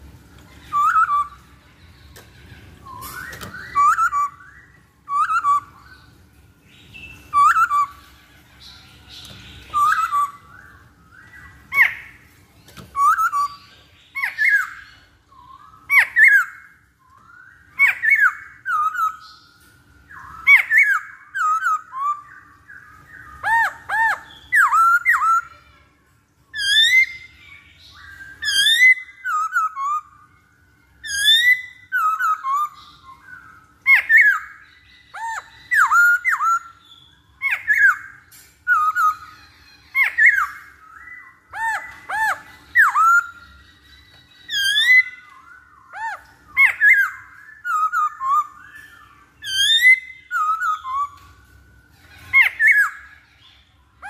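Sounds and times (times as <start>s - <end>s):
bird whistled calls: 0.6s - 1.4s, 2.7s - 6.1s, 7.1s - 8.1s, 9.2s - 19.4s, 20.1s - 25.5s, 26.5s - 30.2s, 31.0s - 51.4s, 52.1s - 53.2s.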